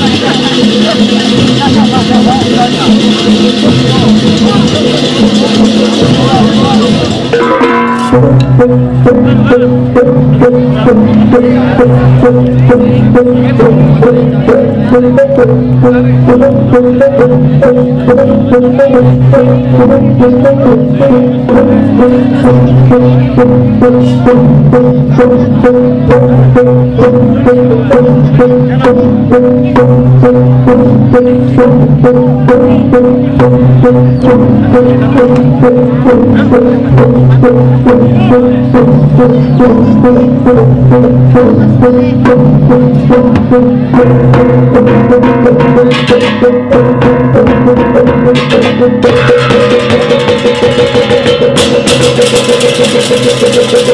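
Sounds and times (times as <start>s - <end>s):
gamelan playing: 0.0s - 14.8s, 17.4s - 53.9s.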